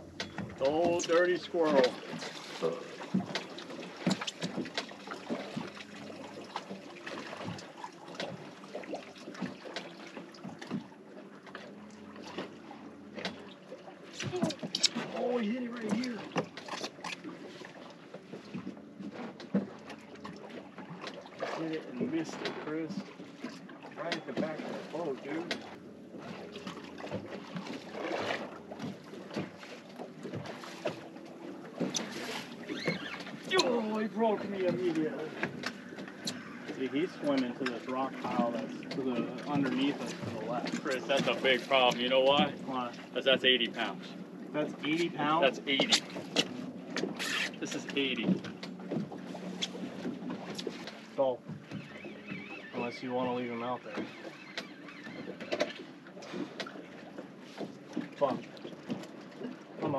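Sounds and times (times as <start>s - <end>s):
water lapping against hull: 0.0s - 59.9s.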